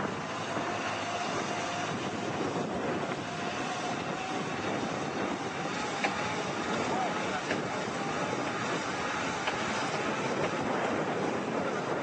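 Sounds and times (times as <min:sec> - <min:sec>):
hovercraft engine and propeller: 0:00.0 - 0:12.0.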